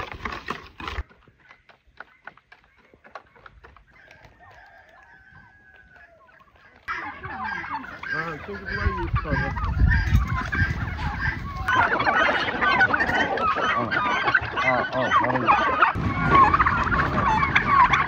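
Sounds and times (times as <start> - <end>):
turkeys and chickens calling: 0.0 - 18.0.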